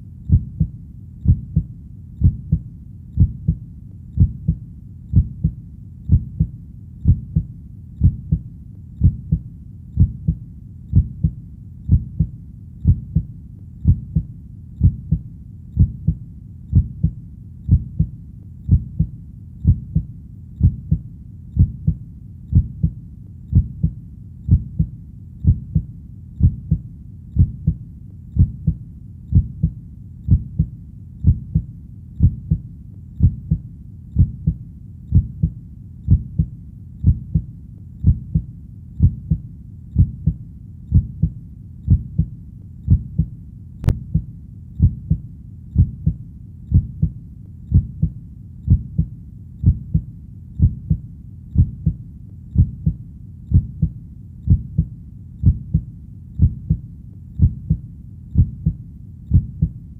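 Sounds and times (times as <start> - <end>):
heartbeat thumping: 0.0 - 9.4, 10.0 - 32.6, 33.2 - 59.8.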